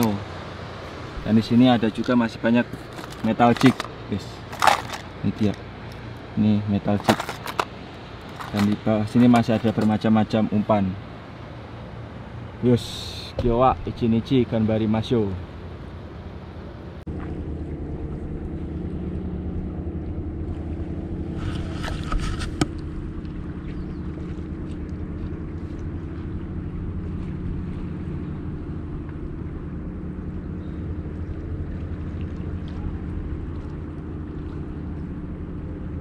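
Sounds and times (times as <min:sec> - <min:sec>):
boat engine idling: 0:00.0 - 0:36.0.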